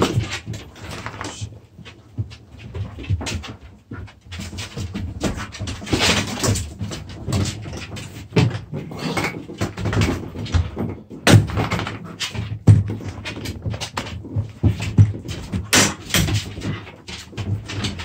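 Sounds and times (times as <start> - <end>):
dogs play-fighting: 0.0 - 18.0
paws scrabbling on floor: 0.0 - 18.0.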